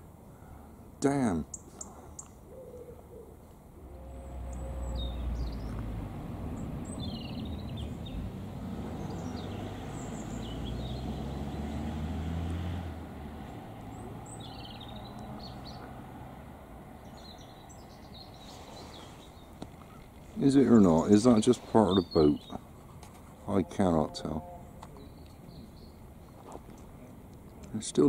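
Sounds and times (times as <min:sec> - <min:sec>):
small birds chirping: 0:00.4 - 0:12.6, 0:13.4 - 0:28.0.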